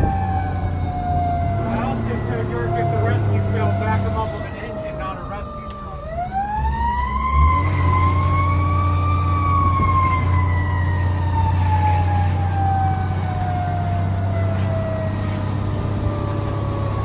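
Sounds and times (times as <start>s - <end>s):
fire truck mechanical siren: 0.0s - 17.0s
truck engine rumble: 0.0s - 17.0s.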